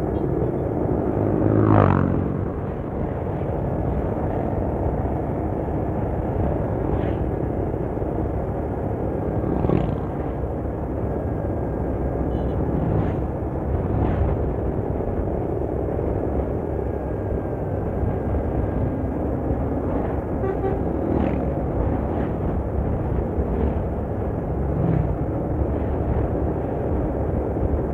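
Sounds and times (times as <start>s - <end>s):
traffic road and engine rumble: 0.0s - 27.9s.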